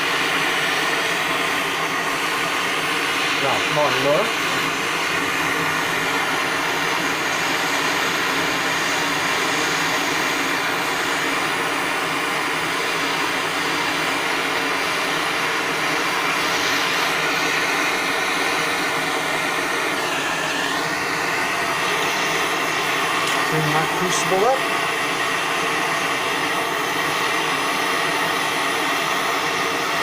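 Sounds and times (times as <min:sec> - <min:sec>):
gas burner rushing: 0:00.0 - 0:30.0.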